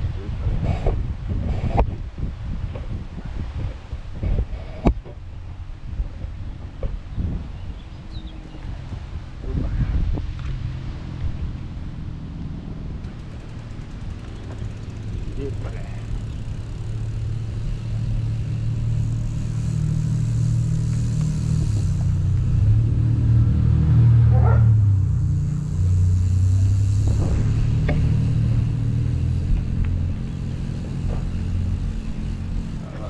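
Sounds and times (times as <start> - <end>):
wind buffeting microphone: 0.0 - 33.0
bike tyres rolling on asphalt: 1.1 - 33.0.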